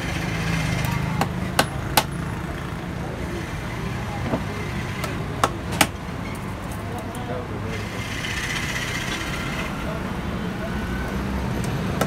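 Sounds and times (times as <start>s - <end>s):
low hum of traffic: 0.0s - 12.0s.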